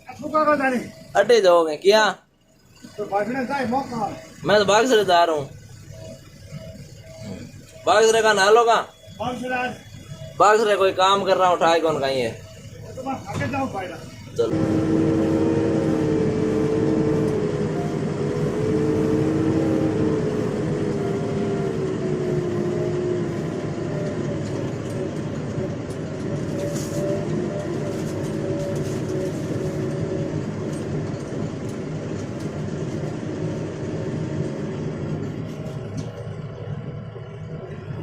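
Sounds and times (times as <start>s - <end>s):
diesel engine running in cab: 0.0s - 38.0s
engine whine: 2.4s - 38.0s.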